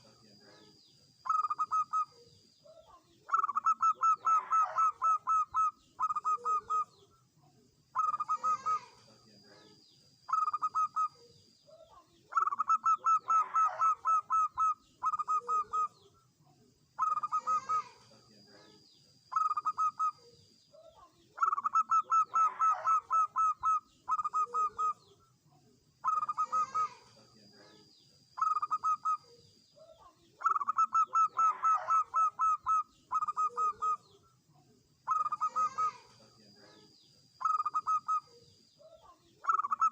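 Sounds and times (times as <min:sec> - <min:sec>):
dove cooing: 0:00.0 - 0:07.1, 0:07.9 - 0:16.2, 0:17.0 - 0:25.2, 0:26.0 - 0:34.2, 0:35.0 - 0:39.9.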